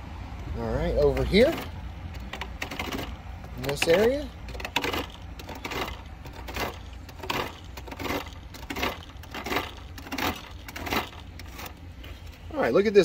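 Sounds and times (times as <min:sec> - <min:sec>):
fin comb rasping scrape: 0:01.0 - 0:12.3.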